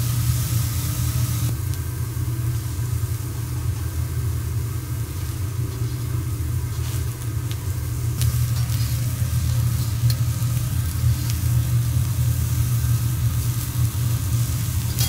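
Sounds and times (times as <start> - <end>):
food sizzling on hot plate: 0.0 - 15.0
steady low rumble: 0.0 - 15.0.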